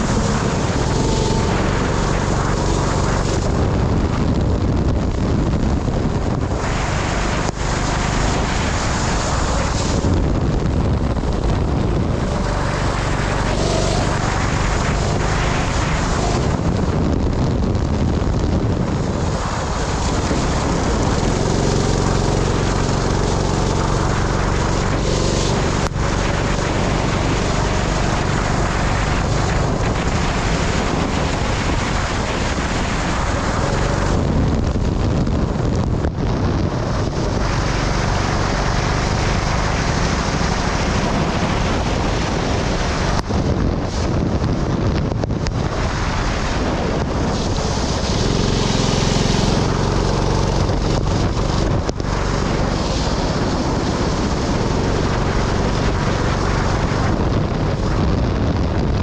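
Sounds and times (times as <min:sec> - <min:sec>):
kart engine running: 0:00.0 - 0:59.0
wind buffeting microphone: 0:00.0 - 0:59.0.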